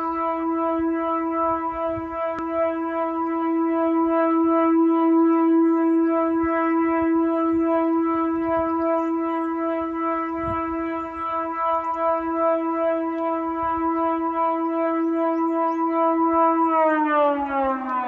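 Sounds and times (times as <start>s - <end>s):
air raid siren steady tone: 0.0s - 18.0s.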